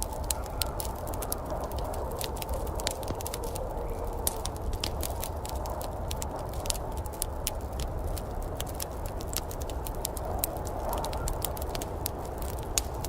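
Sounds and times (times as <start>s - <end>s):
fire pops and snaps: 0.0s - 13.0s
fire rumble and hiss: 0.0s - 13.0s.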